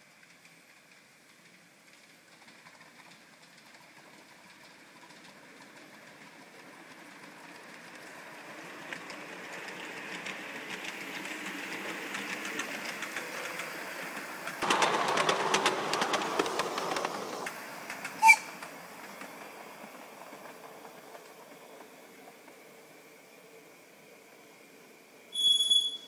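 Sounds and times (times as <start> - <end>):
wheels clattering on rails: 0.0 - 23.6
miniature train running: 0.0 - 26.0.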